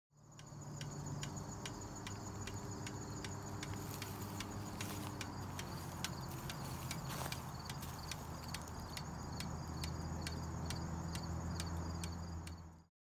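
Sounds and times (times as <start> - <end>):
insects chirping: 0.2 - 12.9.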